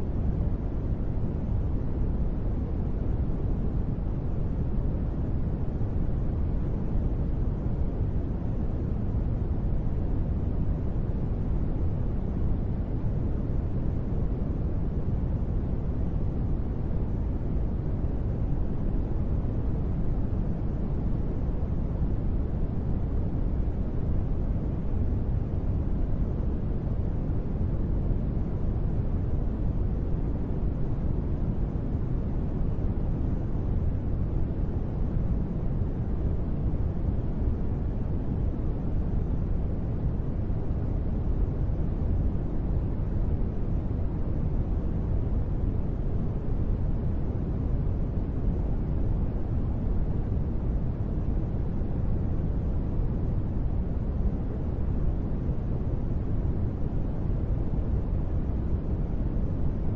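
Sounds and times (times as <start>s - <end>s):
low-pitched white noise: 0.0s - 59.9s.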